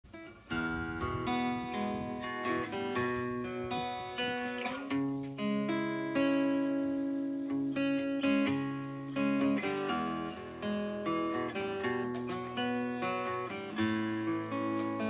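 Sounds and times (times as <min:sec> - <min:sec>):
acoustic guitar picking chords: 0:00.0 - 0:15.0.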